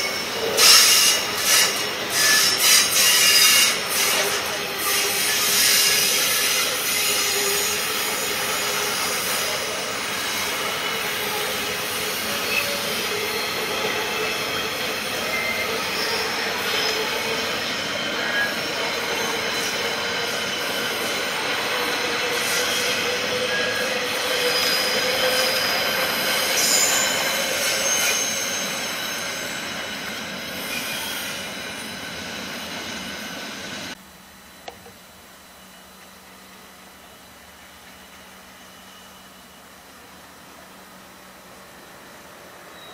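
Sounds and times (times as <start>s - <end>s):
train wheels squealing: 0.0s - 34.0s, 37.9s - 40.0s, 41.2s - 42.9s.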